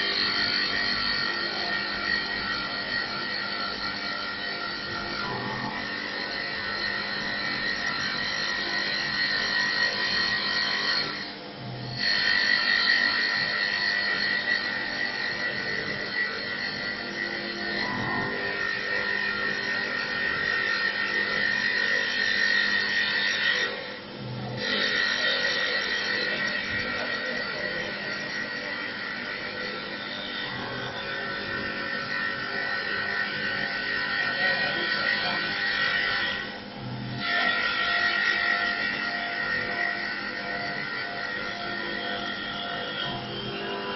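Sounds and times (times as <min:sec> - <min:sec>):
lathe machine whine: 0:00.0 - 0:43.9
tool scraping spinning wood: 0:00.0 - 0:43.9.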